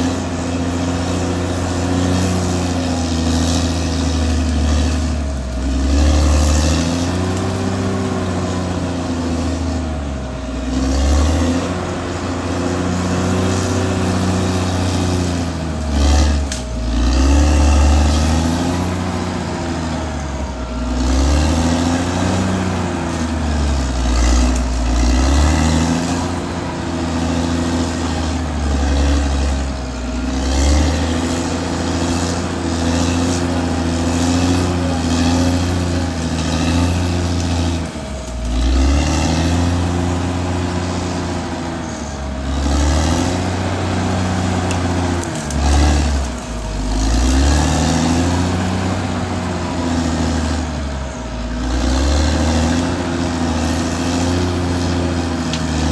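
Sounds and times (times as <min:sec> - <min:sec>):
bulldozer diesel engine working: 0:00.0 - 0:55.9
steady high whine: 0:00.0 - 0:55.9.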